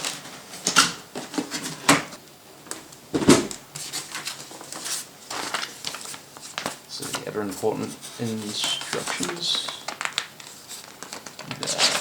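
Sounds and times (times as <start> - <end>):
packaging knocks and rustles: 0.0 - 7.3, 7.9 - 12.0.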